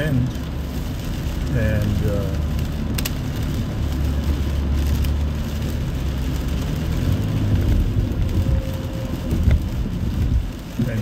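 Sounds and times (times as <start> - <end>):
moving car rumble: 0.0 - 11.0.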